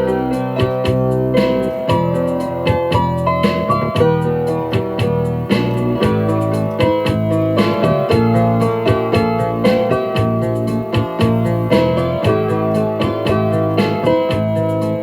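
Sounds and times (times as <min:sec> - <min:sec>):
piano background music with beat: 0:00.0 - 0:15.0.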